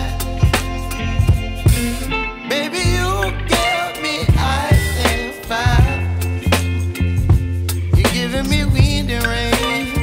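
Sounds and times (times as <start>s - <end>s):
music with bass and drum beat: 0.0s - 10.0s.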